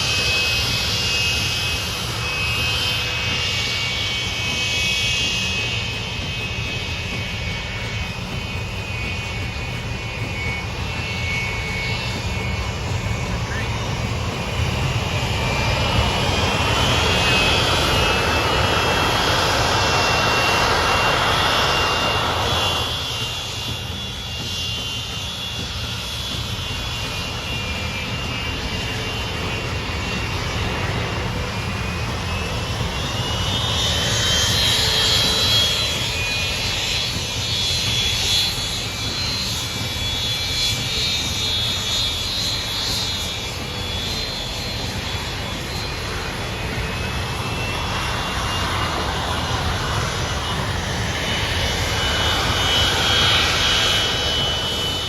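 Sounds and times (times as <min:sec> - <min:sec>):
high jet whine: 0:00.0 - 0:55.0
jet flying past: 0:08.9 - 0:55.0.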